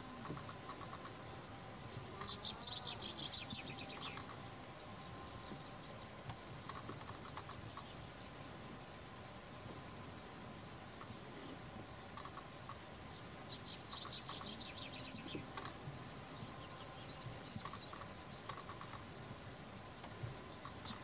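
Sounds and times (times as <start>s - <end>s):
small birds chirping: 0.0s - 8.5s, 9.2s - 21.0s
faint outdoor hiss: 0.0s - 21.0s.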